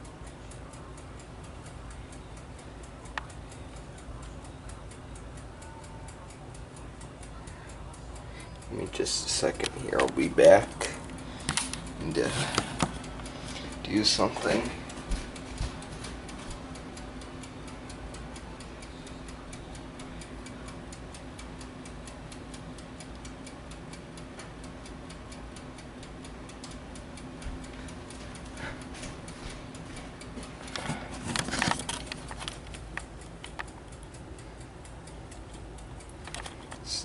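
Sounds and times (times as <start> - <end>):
fast regular ticking: 0.0 - 37.0
low steady hum: 0.0 - 37.0.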